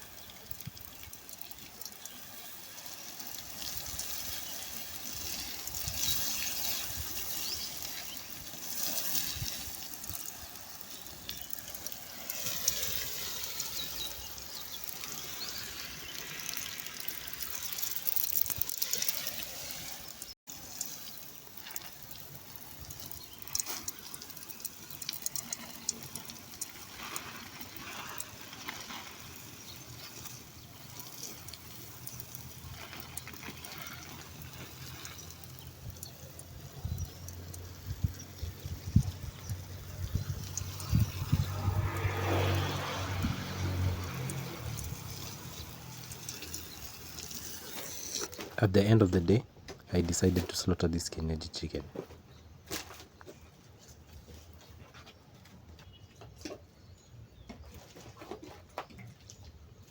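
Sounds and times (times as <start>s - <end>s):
water running into a container: 0.0s - 49.2s.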